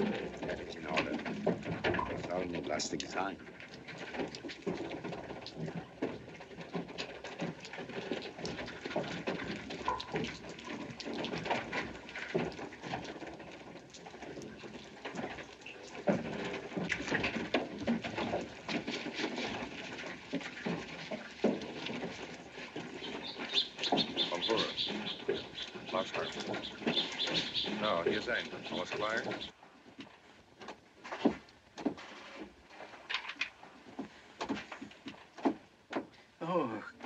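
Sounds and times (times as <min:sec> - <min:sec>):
wooden windmill works clattering: 0:00.0 - 0:37.0.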